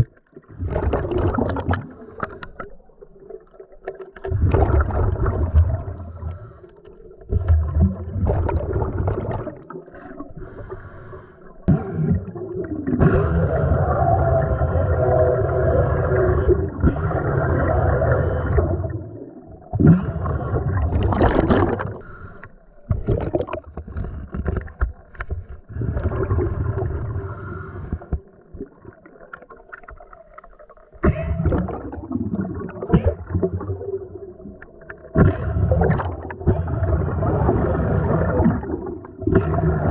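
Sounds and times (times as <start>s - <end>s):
air bubbles gurgling: 0.0s - 6.3s, 7.1s - 10.6s, 11.6s - 22.1s, 22.8s - 39.9s.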